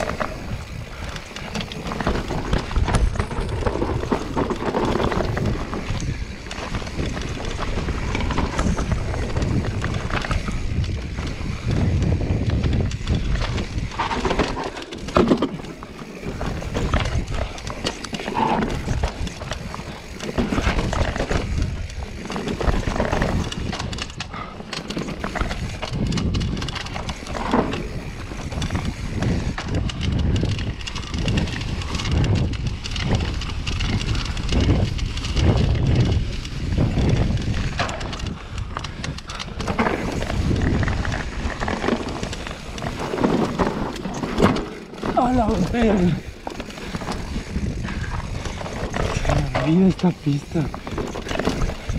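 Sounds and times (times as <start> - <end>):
bike frame rattling: 0.0 - 51.9
tyres rumbling over dirt: 0.0 - 51.9
wind buffeting microphone: 0.0 - 51.9.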